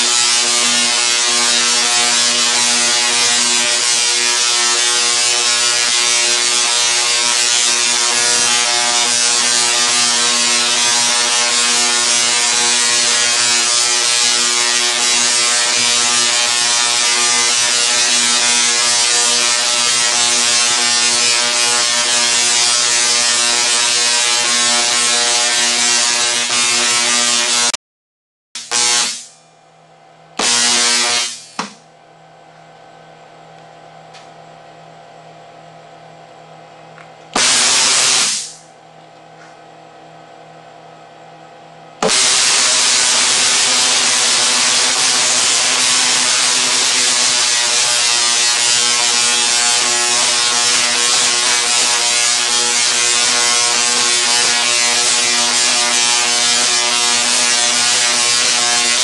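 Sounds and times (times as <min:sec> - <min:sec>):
tesla coil sparks buzzing: 0:00.0 - 0:27.8, 0:28.6 - 0:29.4, 0:30.4 - 0:31.8, 0:37.3 - 0:38.7, 0:42.0 - 0:59.0.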